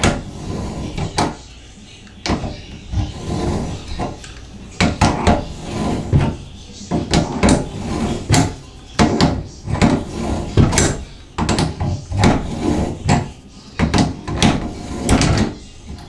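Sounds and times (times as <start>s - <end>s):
metal tools clunking and scraping: 0.0s - 16.0s.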